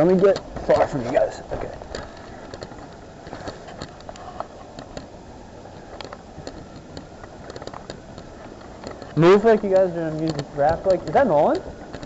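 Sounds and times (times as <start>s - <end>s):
light clicks and crunches: 0.0s - 12.0s
low city rumble: 0.0s - 12.0s.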